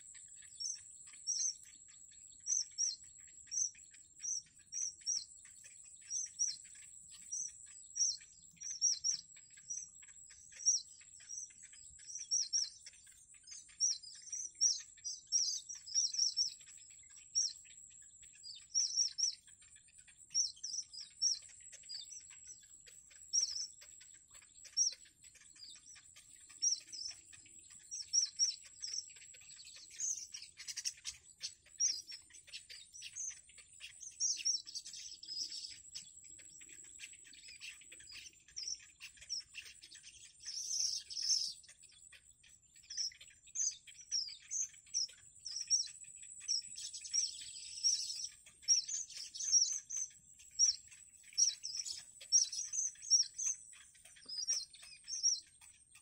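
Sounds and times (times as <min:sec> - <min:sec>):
nestlings begging chirps: 0:00.0 - 0:56.0.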